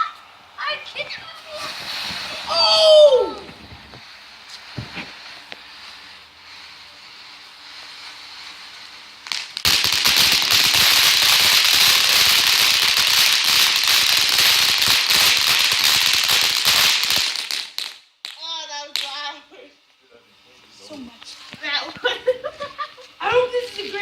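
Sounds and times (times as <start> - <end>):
firework crackling: 0.0 - 24.0
firework hiss: 0.0 - 24.0.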